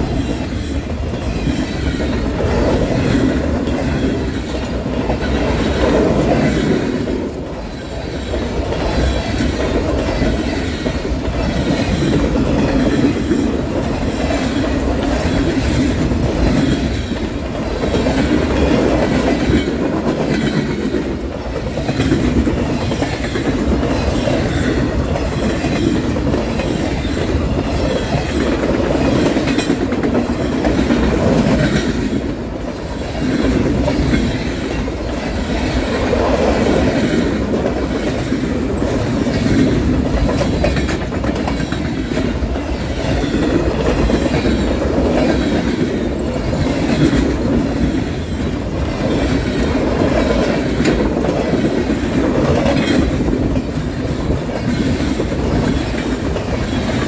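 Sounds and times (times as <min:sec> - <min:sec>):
freight train rolling past: 0:00.0 - 0:57.0
train wheel clicks: 0:00.0 - 0:57.0.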